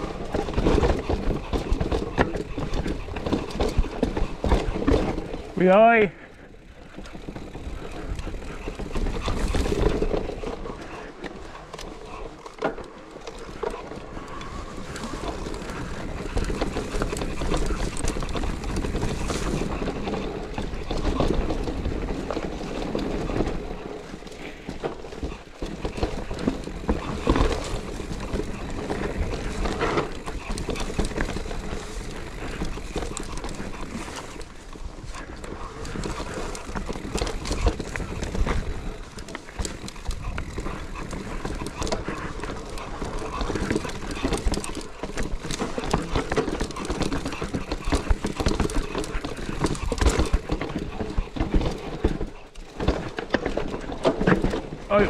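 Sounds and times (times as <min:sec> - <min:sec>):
bike knocking and rattling: 0:00.0 - 0:55.0
bike tyres on rough trail: 0:00.0 - 0:55.0.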